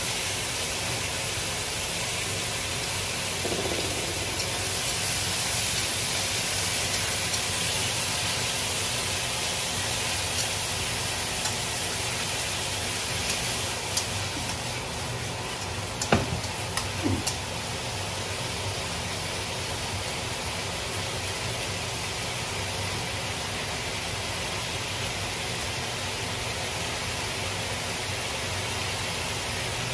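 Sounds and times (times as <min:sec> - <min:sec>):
food sizzling in a wok: 0:00.0 - 0:29.9.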